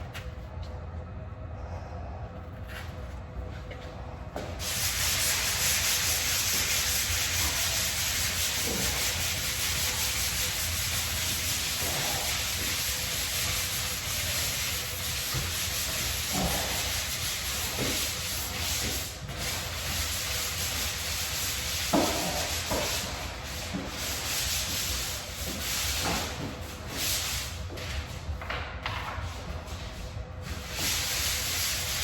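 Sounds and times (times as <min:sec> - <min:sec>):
drywall being sanded: 0:04.4 - 0:28.2, 0:28.9 - 0:32.0.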